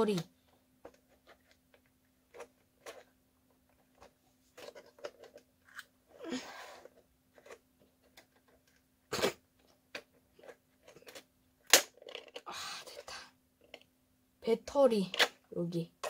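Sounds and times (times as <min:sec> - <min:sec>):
faint steady hum: 0:00.2 - 0:16.0.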